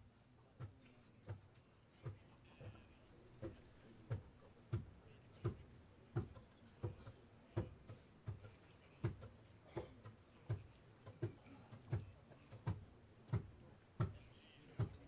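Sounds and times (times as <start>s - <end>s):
dull rhythmic thuds: 0.0s - 15.0s.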